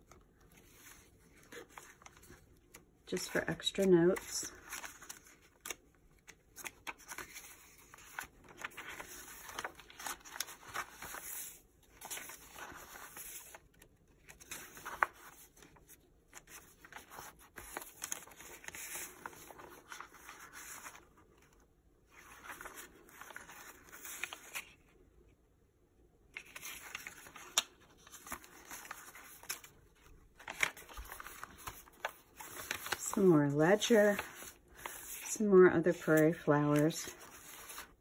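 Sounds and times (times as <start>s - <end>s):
paper rustling: 0.0s - 24.8s, 26.3s - 38.0s.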